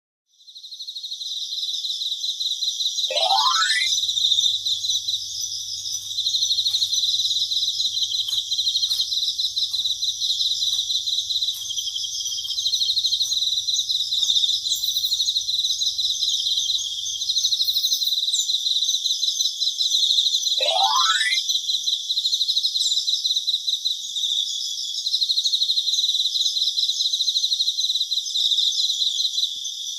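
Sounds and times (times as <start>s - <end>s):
crickets chirping: 0.3s - 29.9s.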